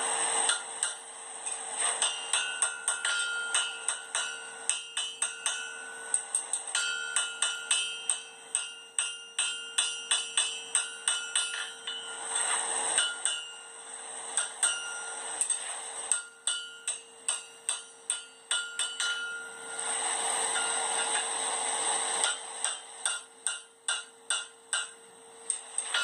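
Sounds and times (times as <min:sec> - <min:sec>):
hammer striking iron on anvil: 0:00.2 - 0:26.0.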